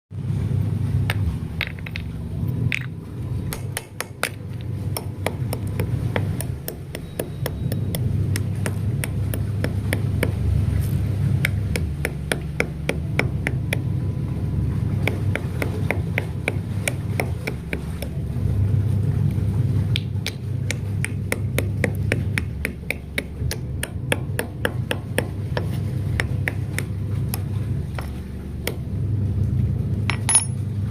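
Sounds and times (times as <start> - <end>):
steady low hum: 0.1 - 30.9.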